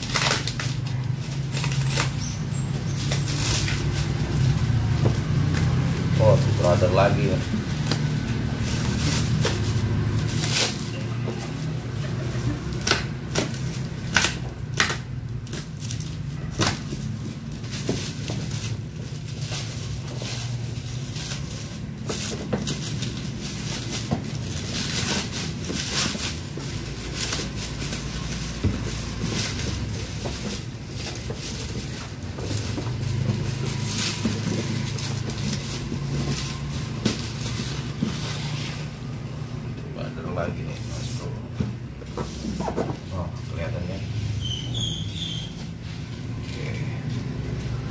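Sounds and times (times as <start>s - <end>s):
plastic wrapping tearing and crumpling: 0.0s - 39.6s.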